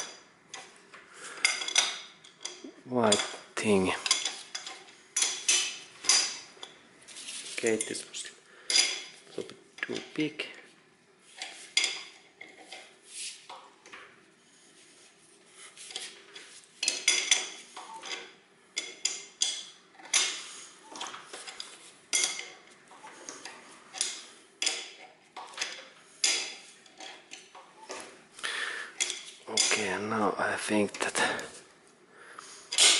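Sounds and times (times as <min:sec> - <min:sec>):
tools knocking and scraping: 0:00.0 - 0:10.2, 0:11.3 - 0:28.2, 0:28.9 - 0:30.2, 0:32.7 - 0:32.9.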